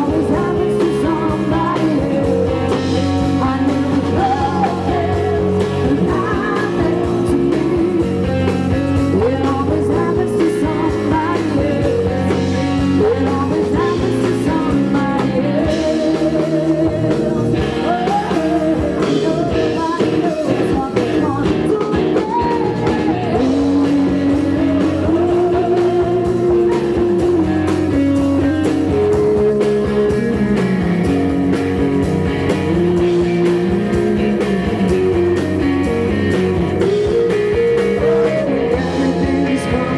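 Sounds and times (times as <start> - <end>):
rock band playing loud: 0.0 - 39.9
sliding lead guitar line: 0.0 - 39.9.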